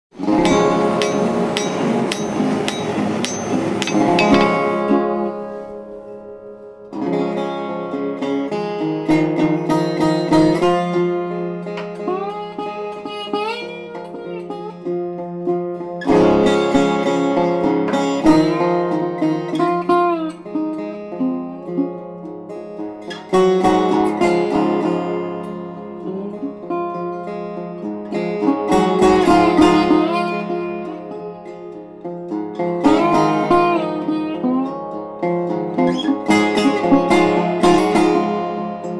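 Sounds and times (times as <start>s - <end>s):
plucked and strummed strings music: 0.1s - 38.9s.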